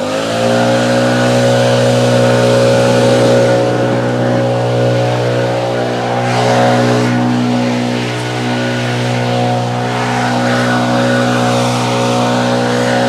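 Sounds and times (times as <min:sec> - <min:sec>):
leaf blower running: 0:00.0 - 0:13.0.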